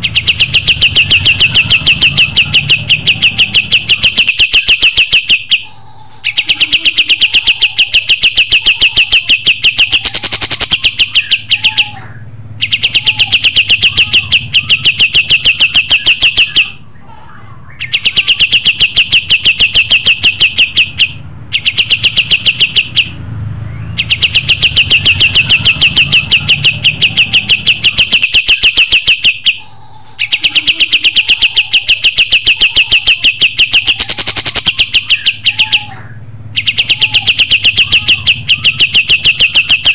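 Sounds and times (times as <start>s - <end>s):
songbird singing rapid high notes: 0.0s - 16.8s, 17.7s - 39.9s.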